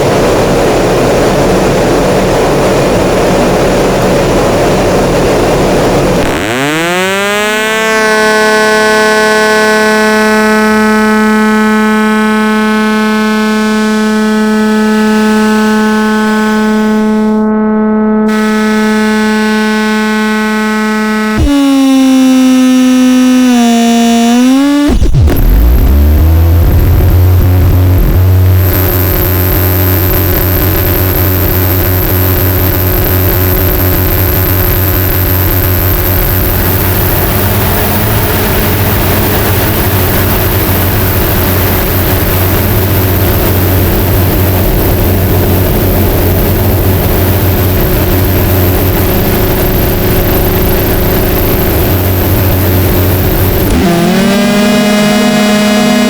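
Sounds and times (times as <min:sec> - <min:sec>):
guitar pedal feedback drone: 0:00.0 - 0:56.0
pitched tone sliding up: 0:06.2 - 0:56.0.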